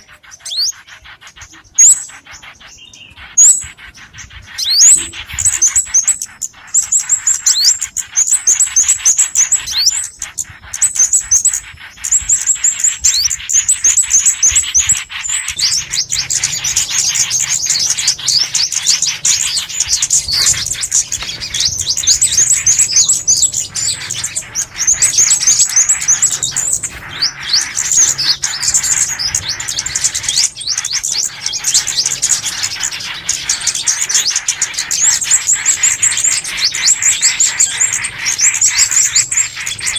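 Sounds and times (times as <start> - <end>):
recorded songbird chirping: 0.0 - 39.9.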